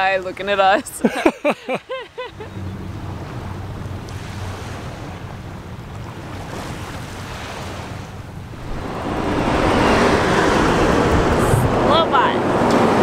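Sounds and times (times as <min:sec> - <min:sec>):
sea water washing against shore: 0:00.0 - 0:13.0
wind rumble on microphone: 0:02.4 - 0:13.0.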